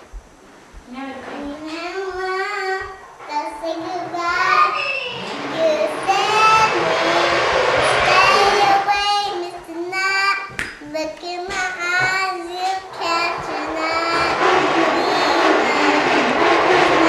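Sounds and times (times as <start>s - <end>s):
girl singing high notes: 1.7s - 16.4s.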